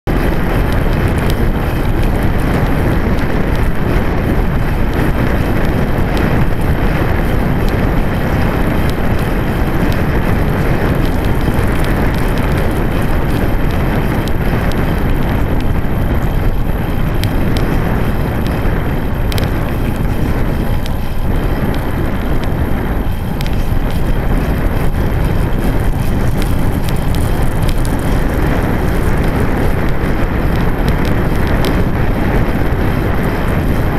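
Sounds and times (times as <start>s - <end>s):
tyres rumbling on rough asphalt: 0.0s - 33.9s
wind rush on microphone: 0.0s - 33.9s.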